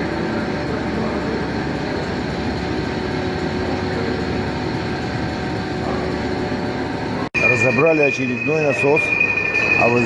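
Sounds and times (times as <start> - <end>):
machinery drone: 0.0 - 10.0.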